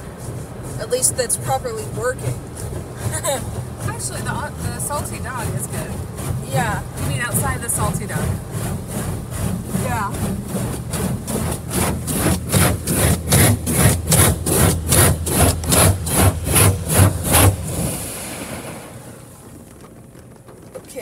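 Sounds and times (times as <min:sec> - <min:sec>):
water jets beating against car: 0:00.0 - 0:21.0.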